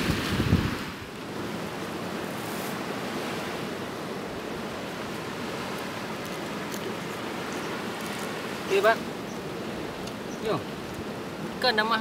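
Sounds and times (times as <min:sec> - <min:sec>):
surf washing on a beach: 0:00.0 - 0:12.0.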